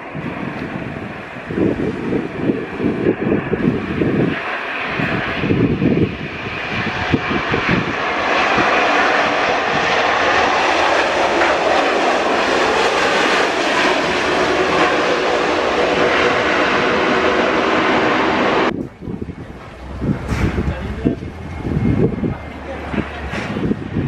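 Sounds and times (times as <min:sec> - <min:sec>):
jet engine noise: 0:00.0 - 0:24.0
wind buffeting microphone: 0:00.0 - 0:24.0.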